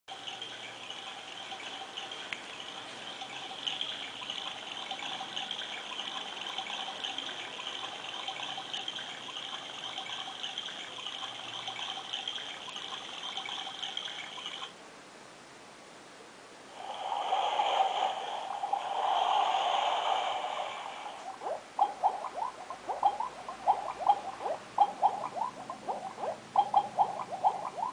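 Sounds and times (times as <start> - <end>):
water-like nature track: 0.1 - 14.8, 16.7 - 27.9
nature sound from small speaker: 0.1 - 27.9.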